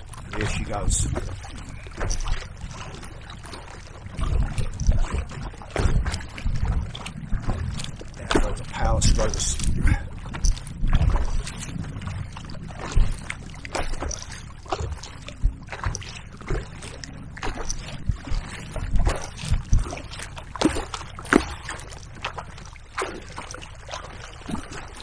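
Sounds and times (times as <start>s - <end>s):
paddle splashing in water: 0.0s - 25.0s
wind rumbling on microphone: 0.0s - 25.0s.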